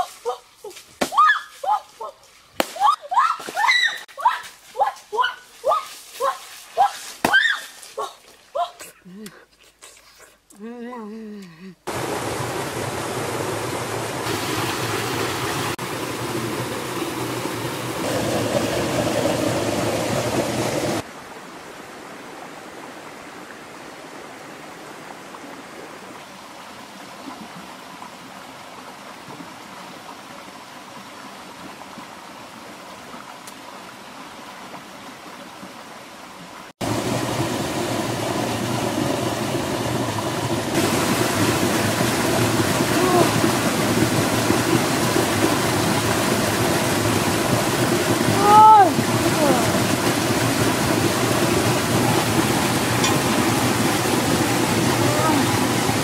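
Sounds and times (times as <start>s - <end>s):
stream water rushing: 0.0s - 8.9s, 11.8s - 56.0s.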